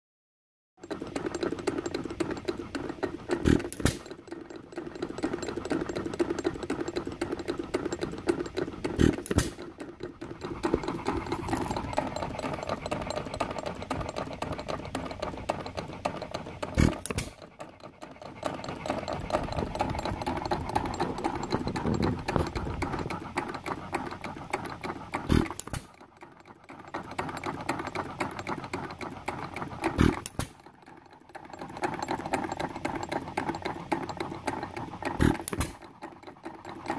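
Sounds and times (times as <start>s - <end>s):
engine mechanical clatter: 0.8s - 36.9s.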